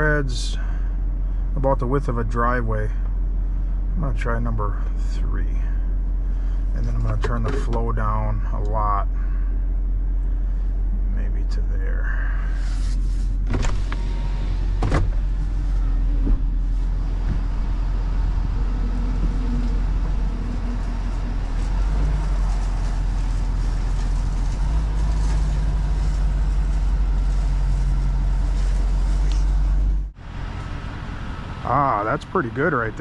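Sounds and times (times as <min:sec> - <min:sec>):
truck engine rumbling: 0:00.0 - 0:33.0.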